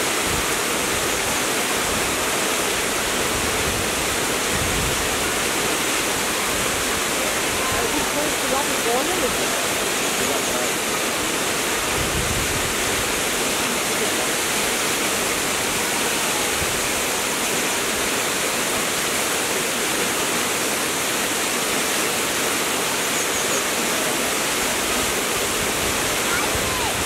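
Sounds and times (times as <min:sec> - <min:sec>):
waterfall splashing onto rocks: 0:00.0 - 0:27.0.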